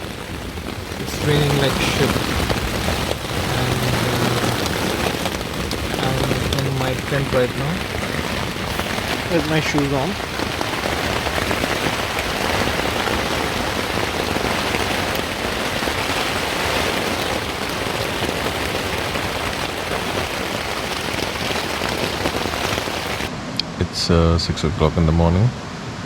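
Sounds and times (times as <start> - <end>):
heavy rain on a tent: 0.0 - 23.6.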